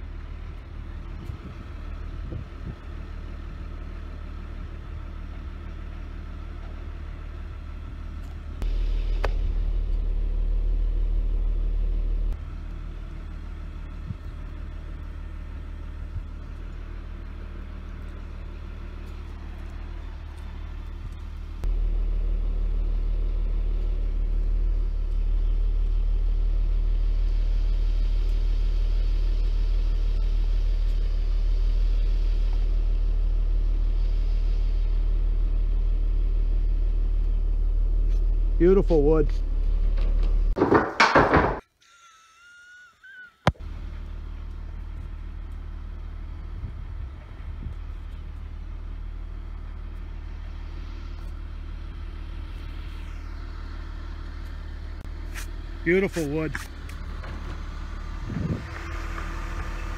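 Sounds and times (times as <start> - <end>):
truck engine running: 0.0 - 41.6, 43.5 - 59.9.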